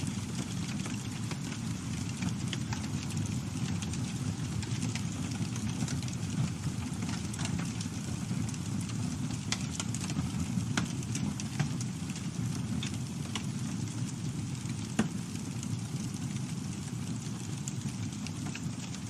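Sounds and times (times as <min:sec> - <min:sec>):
burning wood crackling and popping: 0:00.0 - 0:19.0
campfire burning: 0:00.0 - 0:19.0.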